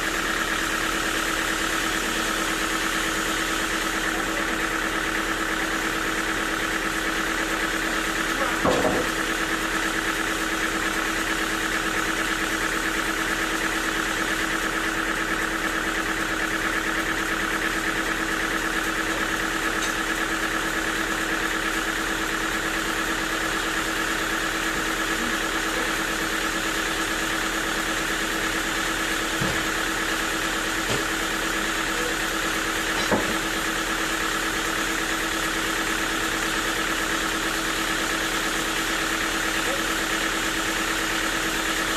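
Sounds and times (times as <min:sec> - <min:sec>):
sawmill engine humming: 0:00.0 - 0:41.9.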